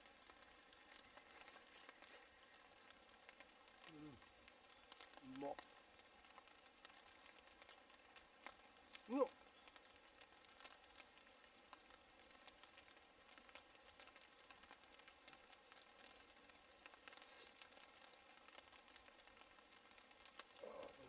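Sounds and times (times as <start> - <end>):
faint fine crackling: 0.0 - 21.0.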